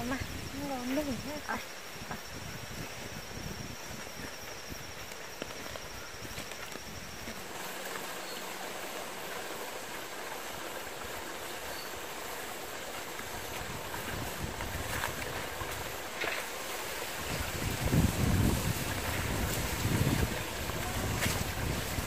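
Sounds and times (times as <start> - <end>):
steady rushing outdoor noise: 0.0 - 22.0
tall grass brushing: 0.1 - 22.0.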